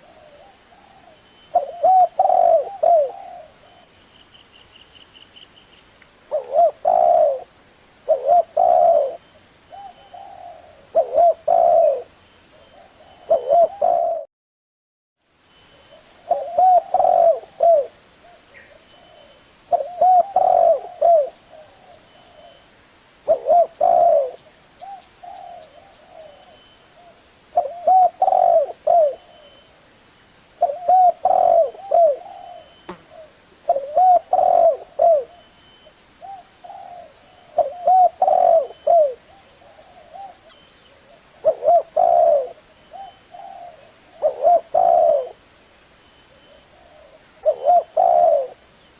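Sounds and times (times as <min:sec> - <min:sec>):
dove cooing: 0:00.0 - 0:03.9, 0:06.3 - 0:14.3, 0:15.9 - 0:22.6, 0:23.2 - 0:29.7, 0:30.6 - 0:45.5, 0:46.3 - 0:48.6.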